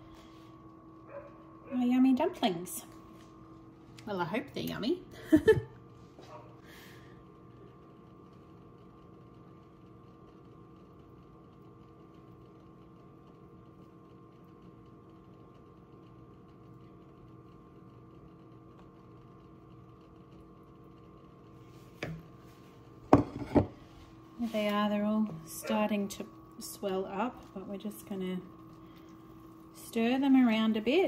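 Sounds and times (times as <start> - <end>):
faint mechanical hum: 0.0 - 31.0.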